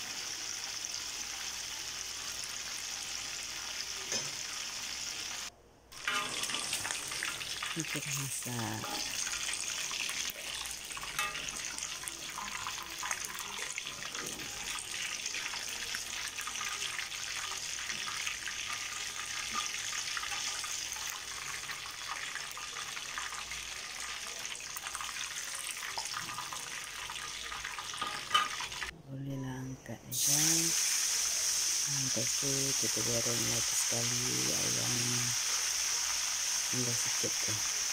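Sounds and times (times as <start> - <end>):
oil sizzling and crackling: 0.0 - 28.9, 30.1 - 37.9.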